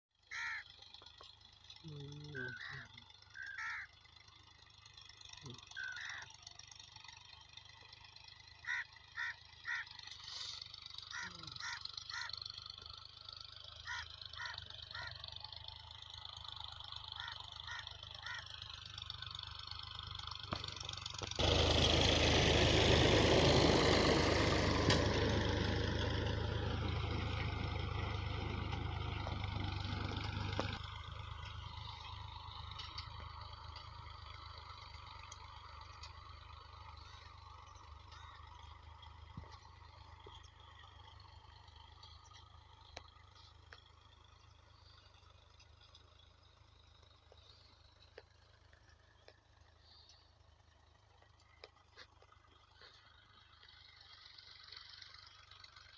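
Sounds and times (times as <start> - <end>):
tractor engine running: 0.1 - 55.9.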